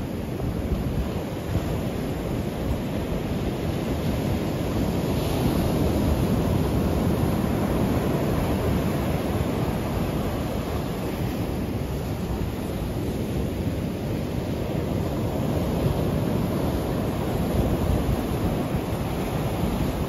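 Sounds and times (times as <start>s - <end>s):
surf breaking on beach: 0.0s - 20.0s
wind rumbling on microphone: 0.0s - 20.0s.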